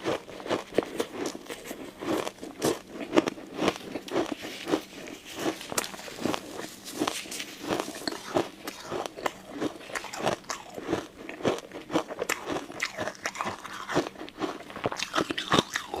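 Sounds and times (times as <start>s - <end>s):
ice cubes being chewed: 0.0s - 16.0s.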